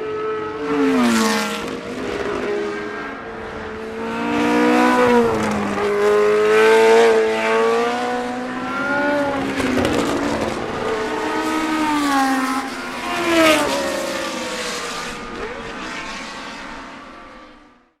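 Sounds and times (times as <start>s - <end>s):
racing car engines at high revs: 0.0s - 17.7s.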